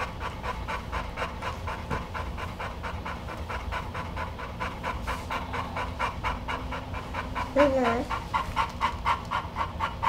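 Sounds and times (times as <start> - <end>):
dog panting rapidly: 0.0 - 10.0.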